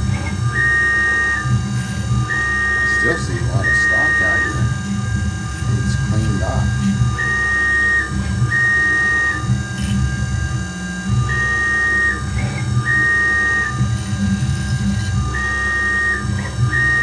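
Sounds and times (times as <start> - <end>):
high machine tone: 0.0 - 17.0
mill machine whine and rumble: 0.0 - 17.0.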